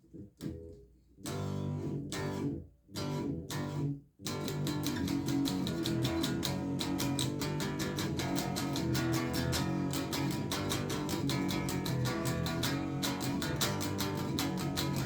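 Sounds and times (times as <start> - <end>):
fuzzed electric guitar strumming: 1.3 - 15.0.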